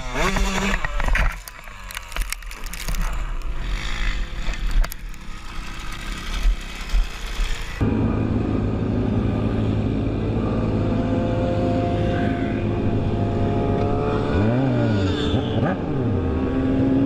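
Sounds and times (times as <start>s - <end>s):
vehicle engine running steadily: 0.0s - 14.3s.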